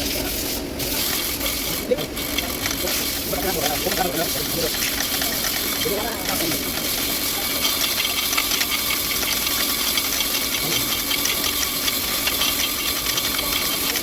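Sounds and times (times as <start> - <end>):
steady hiss: 0.0 - 14.0
fine rattle: 1.0 - 14.0.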